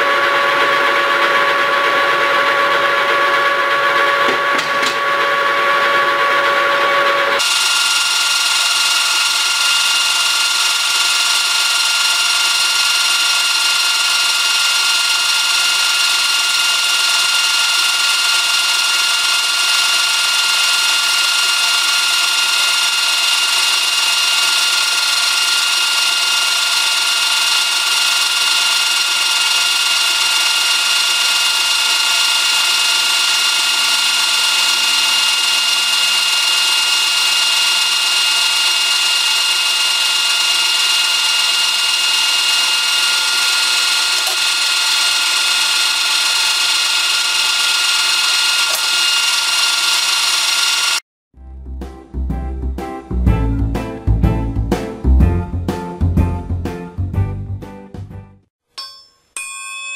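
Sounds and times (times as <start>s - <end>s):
metal lathe cutting: 0.0s - 51.0s.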